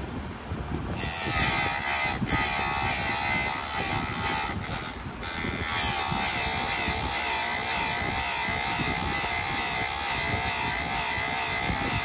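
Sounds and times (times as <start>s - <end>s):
electric chain sharpener whining: 0.9s - 12.0s.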